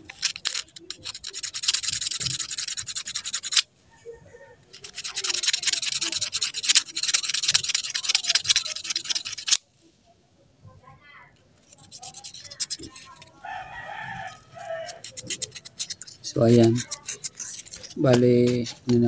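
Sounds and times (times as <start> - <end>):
sandpaper rubbing on metal: 0.0 - 3.6, 4.7 - 9.6, 11.6 - 19.0.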